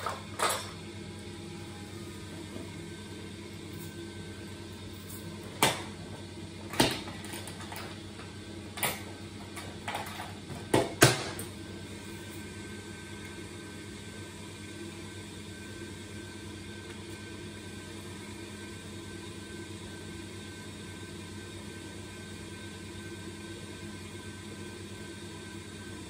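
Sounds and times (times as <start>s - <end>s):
boiler burner humming: 0.0s - 26.0s.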